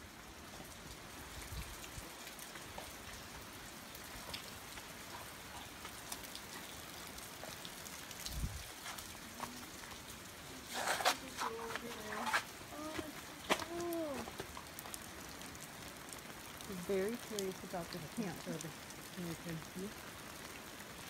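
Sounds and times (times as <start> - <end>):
rain on a canvas tent: 0.0 - 21.0.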